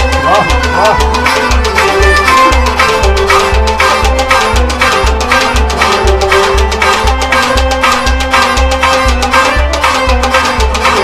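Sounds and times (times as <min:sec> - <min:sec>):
held melody notes: 0:00.0 - 0:11.0
low drum beat: 0:00.0 - 0:11.0
sharp percussive strikes: 0:00.0 - 0:11.0.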